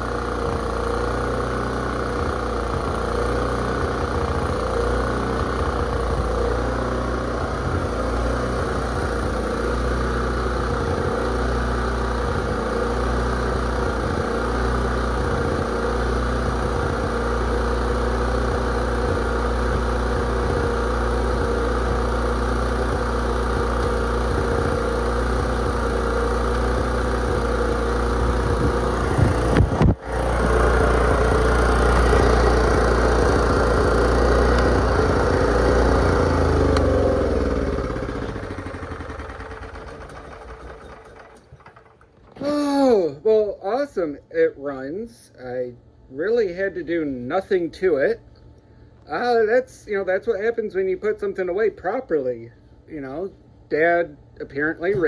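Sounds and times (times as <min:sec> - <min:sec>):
generator engine running: 0:00.0 - 0:53.3.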